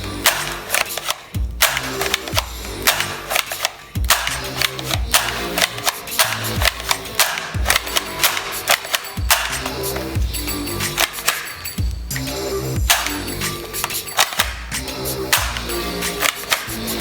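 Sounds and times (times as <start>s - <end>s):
music with deep bass beat: 0.0s - 17.0s
toy gun clicks and shots: 0.0s - 17.0s.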